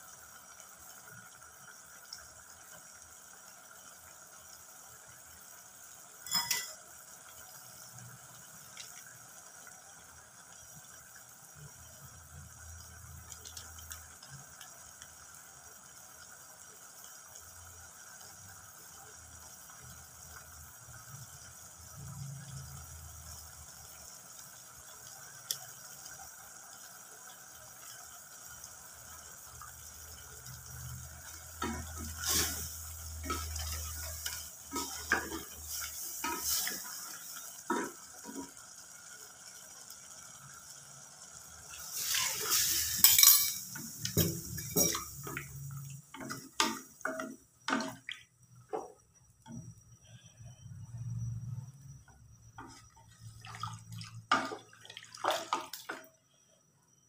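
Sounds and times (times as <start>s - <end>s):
water hissing into hot pot: 0.0s - 48.6s.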